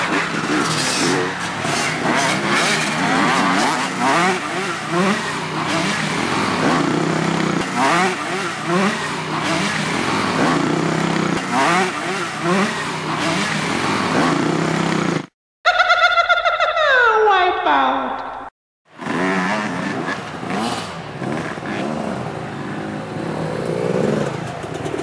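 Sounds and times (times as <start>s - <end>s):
motorcycle engine revving: 0.0s - 15.4s, 18.9s - 25.0s.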